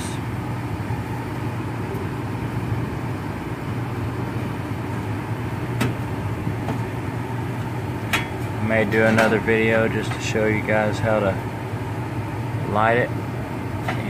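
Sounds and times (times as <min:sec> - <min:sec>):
furnace hum and air noise: 0:00.0 - 0:14.0.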